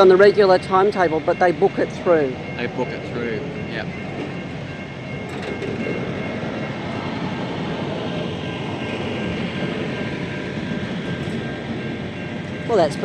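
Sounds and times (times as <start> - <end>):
freight train wagons rumbling past: 0.0 - 13.0.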